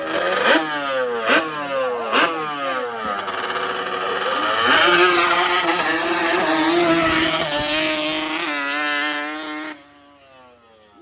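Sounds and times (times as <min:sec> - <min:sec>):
dirt bike engine revving: 0:00.0 - 0:10.6.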